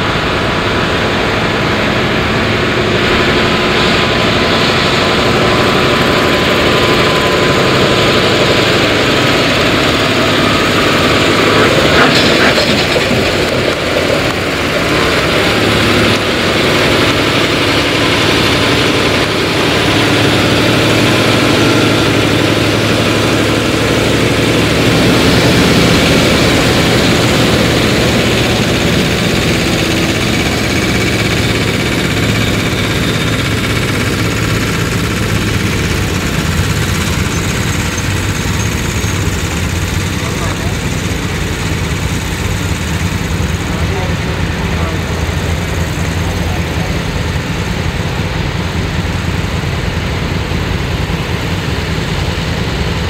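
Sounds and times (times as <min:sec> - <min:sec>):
low hum: 0:00.0 - 0:53.0
truck diesel engines droning: 0:00.0 - 0:53.0.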